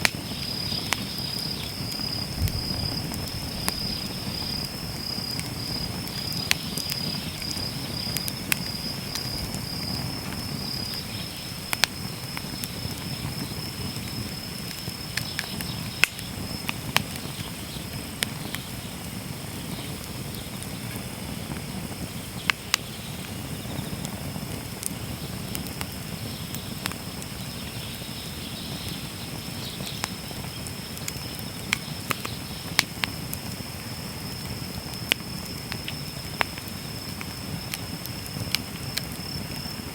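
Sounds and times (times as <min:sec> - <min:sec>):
low rush of flame: 0:00.0 - 0:39.9
wood fire crackling: 0:00.0 - 0:39.9.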